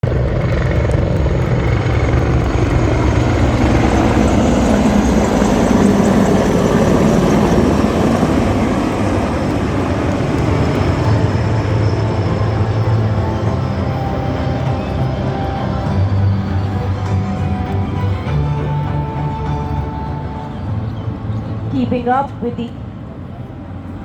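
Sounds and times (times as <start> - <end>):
aircraft flying low overhead: 0.0 - 24.0.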